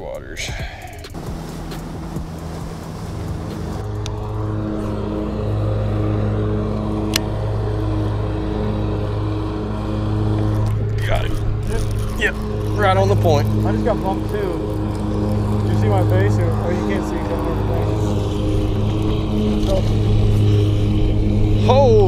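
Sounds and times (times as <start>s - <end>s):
lawnmower engine running: 1.2s - 10.8s, 11.4s - 21.7s.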